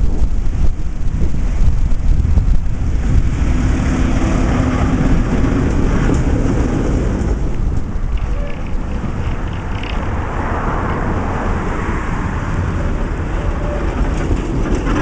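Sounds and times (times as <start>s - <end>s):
tram hum: 0.0s - 15.0s
tram wheels rumbling on rails: 0.0s - 15.0s
wind buffeting on microphone: 0.0s - 15.0s.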